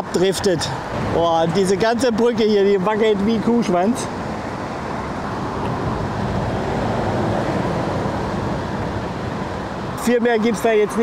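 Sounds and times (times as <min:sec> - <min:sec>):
passing road traffic: 0:00.0 - 0:11.0.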